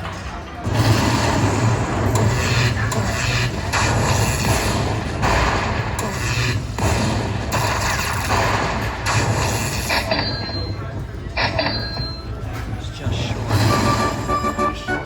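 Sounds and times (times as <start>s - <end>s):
booming slot machine effects: 0.0s - 10.8s, 13.4s - 15.0s.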